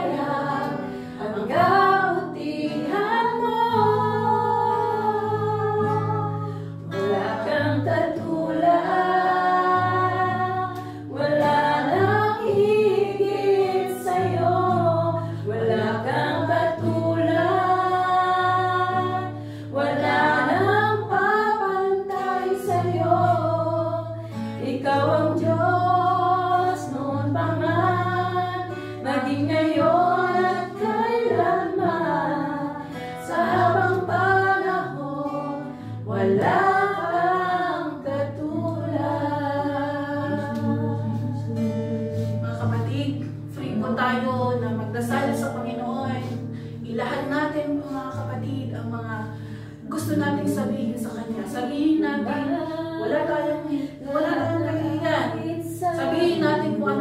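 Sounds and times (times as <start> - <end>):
acoustic guitar: 0.0 - 57.0
women singing together: 0.0 - 57.0.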